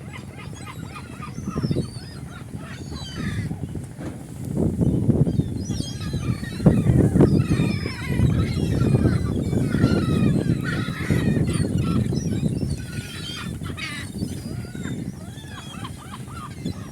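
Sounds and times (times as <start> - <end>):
gulls calling: 0.0 - 16.9.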